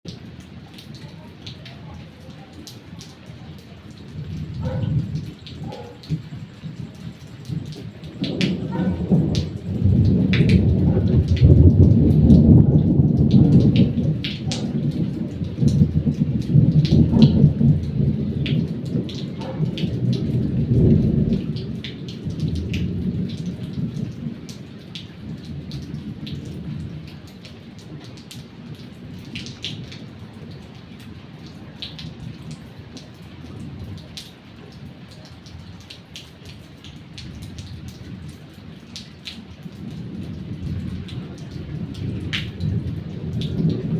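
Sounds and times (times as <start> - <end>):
steady rain with drips: 0.0 - 43.9
thunder rumbling: 2.2 - 34.9, 36.8 - 43.9.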